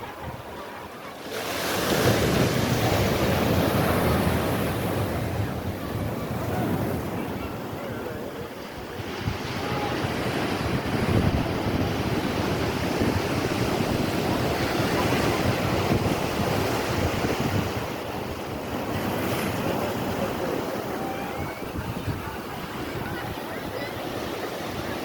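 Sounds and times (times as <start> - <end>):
waves breaking on a beach: 0.0 - 25.0
wind buffeting the microphone: 2.0 - 25.0.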